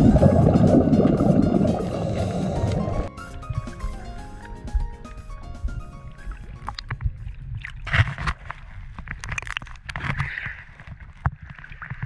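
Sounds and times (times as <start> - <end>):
sea water sloshing and splashing: 0.0 - 4.5, 6.1 - 12.0.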